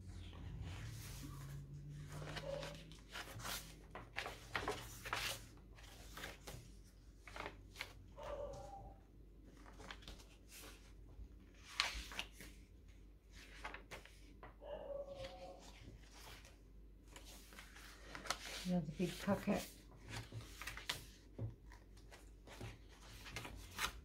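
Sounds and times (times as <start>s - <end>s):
paper pages rustling and flicking: 0.2s - 8.8s, 9.4s - 11.0s, 11.6s - 24.0s.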